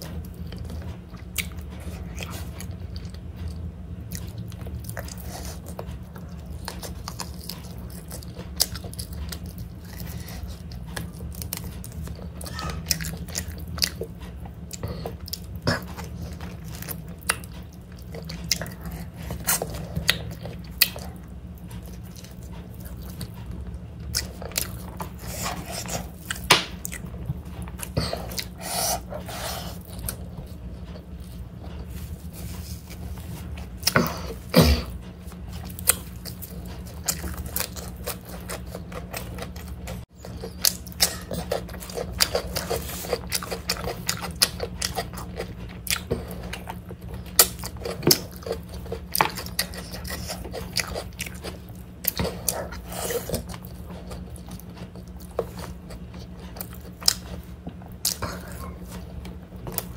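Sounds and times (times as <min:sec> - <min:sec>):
chewing and lip smacks: 0:00.1 - 0:34.5, 0:35.2 - 0:59.9.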